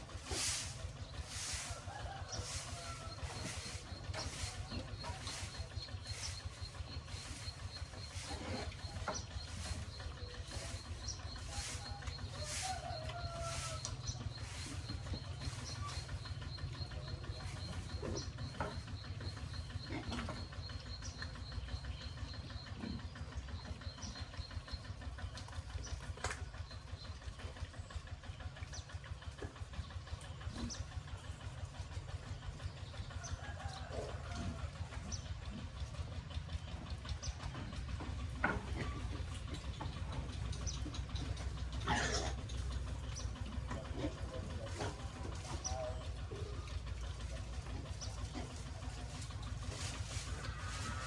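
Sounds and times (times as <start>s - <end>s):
birds chirping: 0.0s - 31.2s, 32.2s - 51.0s
small engine running: 0.0s - 51.0s.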